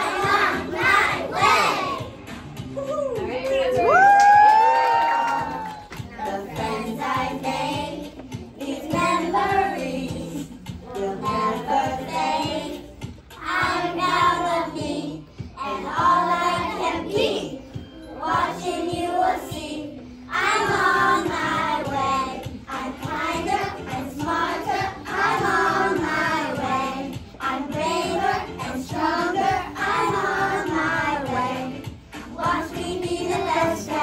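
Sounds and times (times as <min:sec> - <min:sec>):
children singing together: 0:00.0 - 0:02.2, 0:06.0 - 0:34.0.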